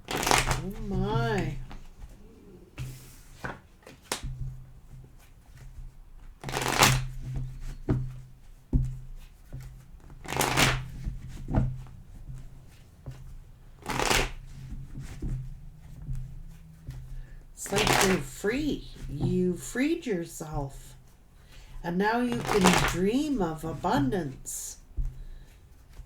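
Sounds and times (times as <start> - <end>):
cards riffle shuffling: 0.0 - 5.3, 6.4 - 7.8, 9.2 - 19.7, 20.4 - 26.0
cards tapping and clicking: 0.0 - 19.6, 20.5 - 26.0.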